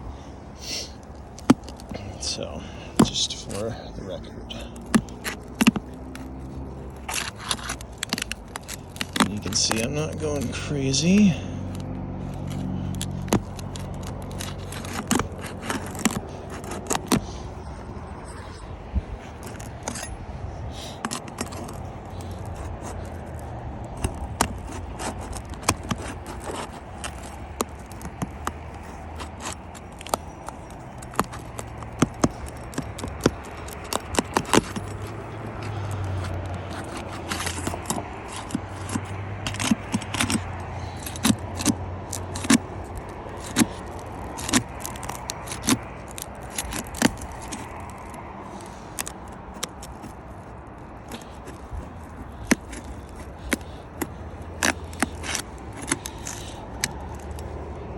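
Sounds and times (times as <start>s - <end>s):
roof shingles being pried up: 0.9s - 57.9s.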